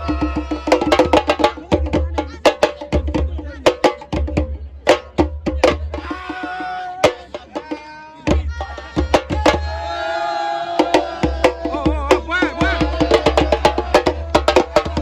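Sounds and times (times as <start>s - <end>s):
fast hand drum percussion: 0.0s - 9.8s, 10.8s - 15.0s.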